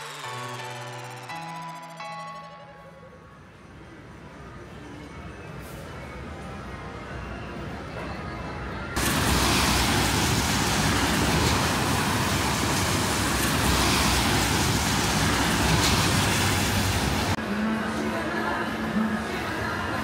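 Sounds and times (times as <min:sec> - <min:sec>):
city street traffic: 0:03.5 - 0:20.0.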